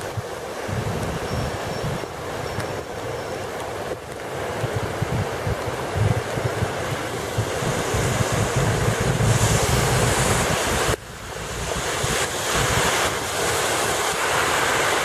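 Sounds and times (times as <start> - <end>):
stormwater rushing from drain: 0.0 - 15.0
tyres hissing through water: 0.0 - 15.0
wind buffeting microphone: 0.0 - 15.0.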